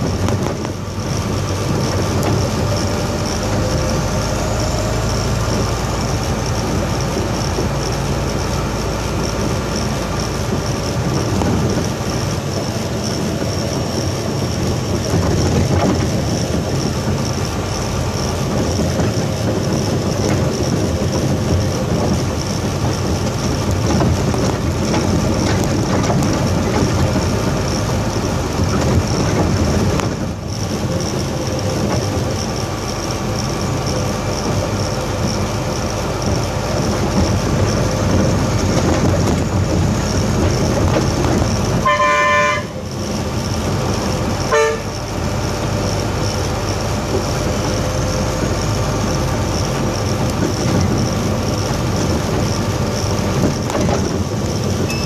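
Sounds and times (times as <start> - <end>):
road noise: 0.0 - 55.0
truck diesel engine drone: 0.0 - 55.0.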